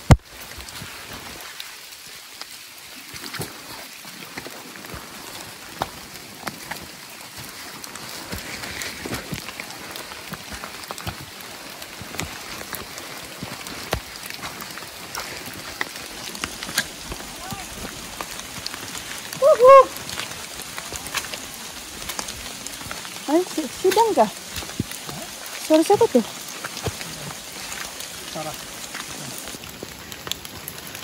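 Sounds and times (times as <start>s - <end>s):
rain on foliage: 0.0s - 31.0s.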